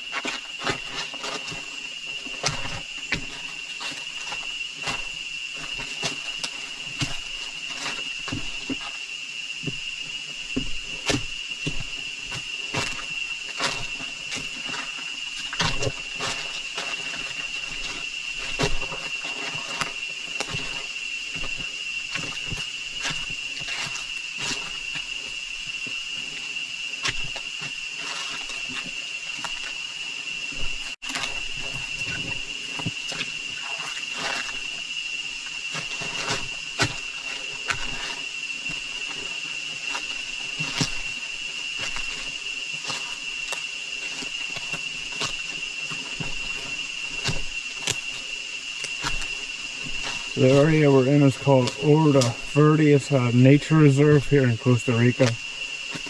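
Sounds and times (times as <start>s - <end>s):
twigs crackling: 0.0s - 9.0s, 9.6s - 56.0s
footsteps crunching on leaves: 0.0s - 56.0s
insects droning: 0.0s - 56.0s.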